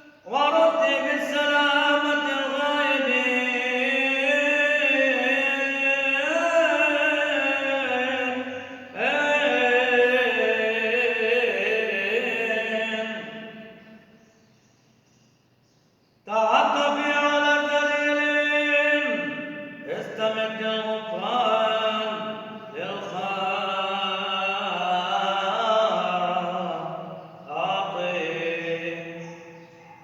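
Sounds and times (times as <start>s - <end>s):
man chanting a sung prayer: 0.0s - 14.2s, 16.2s - 30.0s.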